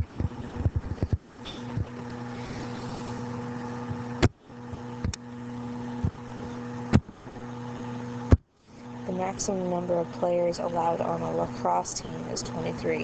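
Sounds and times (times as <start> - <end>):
electrical hum with low buzz: 0.0 - 13.0.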